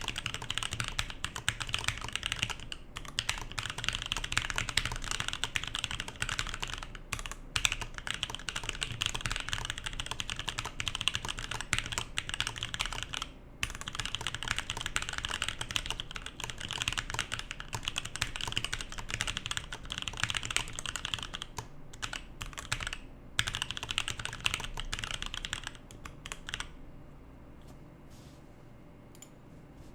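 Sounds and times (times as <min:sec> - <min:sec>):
fast typing on mechanical keyboard: 0:00.0 - 0:26.8.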